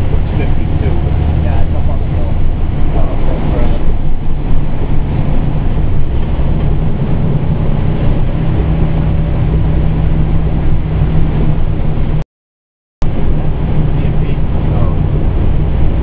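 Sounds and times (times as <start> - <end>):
fire engine droning: 0.0 - 12.2, 13.0 - 16.0
road and tyre noise: 0.0 - 12.2, 13.0 - 16.0.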